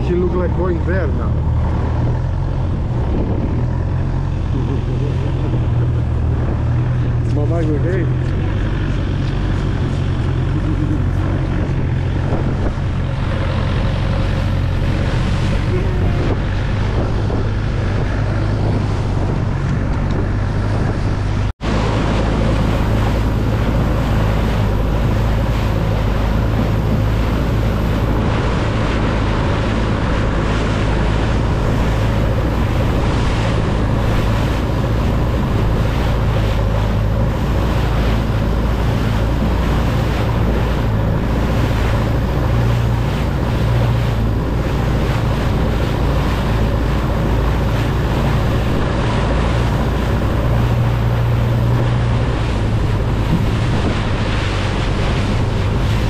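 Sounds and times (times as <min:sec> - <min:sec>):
boat engine running: 0:00.0 - 0:56.0
water rushing along hull: 0:00.0 - 0:56.0
wind buffeting microphone: 0:00.0 - 0:56.0.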